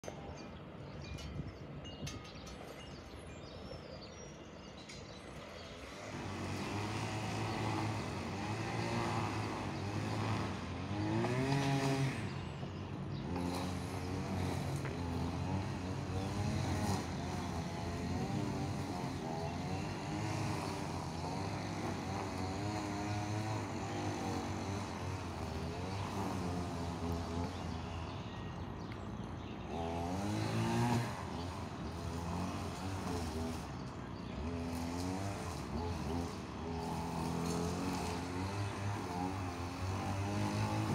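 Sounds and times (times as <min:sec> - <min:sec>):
engine drone: 0:02.9 - 0:40.9.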